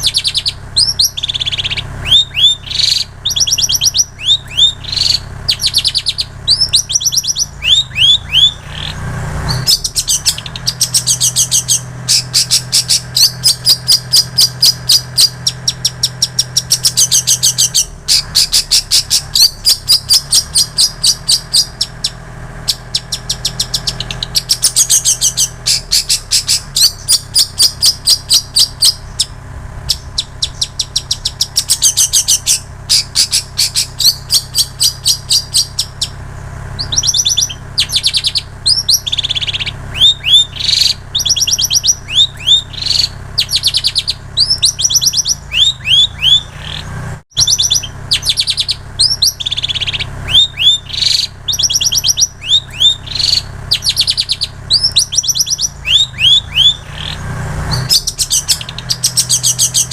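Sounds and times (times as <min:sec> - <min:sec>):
bird singing chips and whistles: 0:00.0 - 0:59.9.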